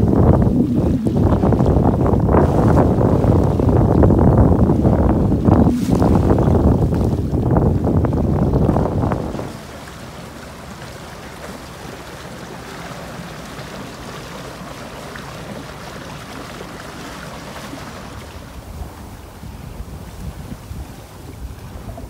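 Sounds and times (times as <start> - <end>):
waves on choppy water: 0.0 - 22.0
wind: 0.0 - 22.0
wind buffeting microphone: 0.0 - 22.0.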